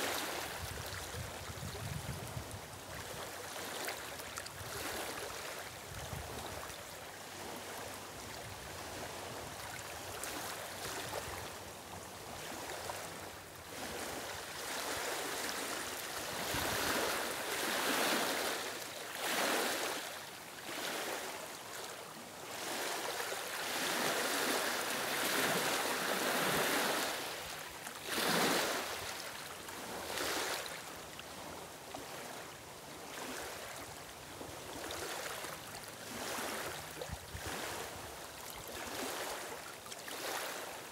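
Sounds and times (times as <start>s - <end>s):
lake waves lapping on stony shore: 0.0s - 40.9s.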